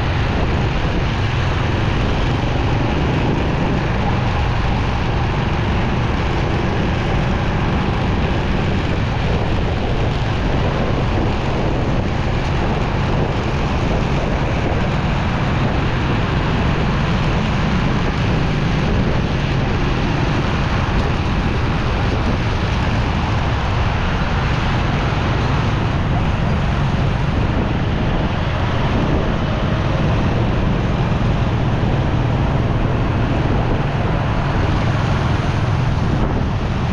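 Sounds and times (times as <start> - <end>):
road noise: 0.0 - 36.9
wind rush on microphone: 0.0 - 36.9.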